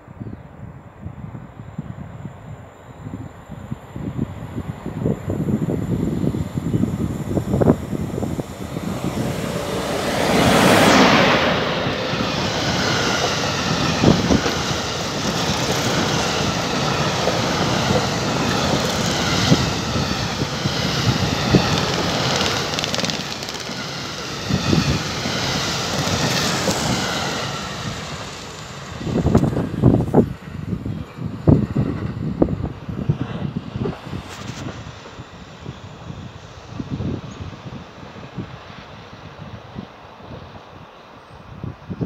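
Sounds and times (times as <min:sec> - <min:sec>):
locomotive passing with loud rush: 0:04.5 - 0:40.7.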